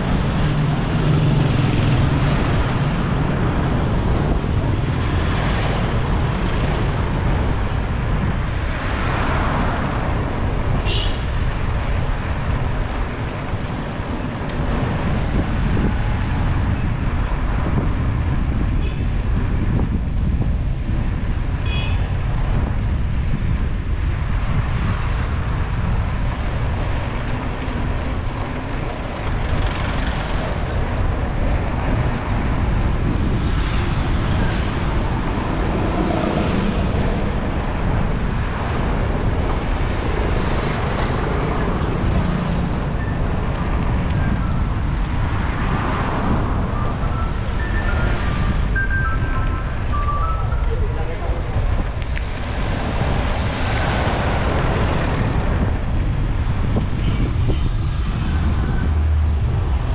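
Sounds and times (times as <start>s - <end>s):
cars and trucks passing: 0.0s - 59.9s
road traffic rumble: 0.0s - 59.9s.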